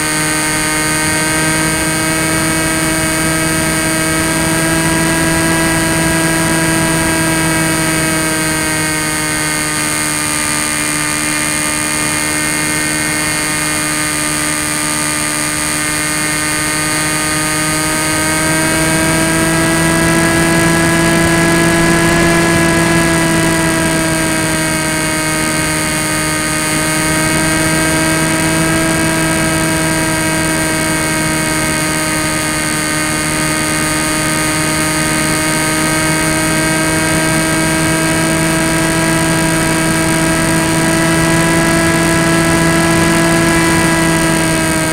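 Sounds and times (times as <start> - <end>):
electric motor and propeller whining: 0.0 - 44.9.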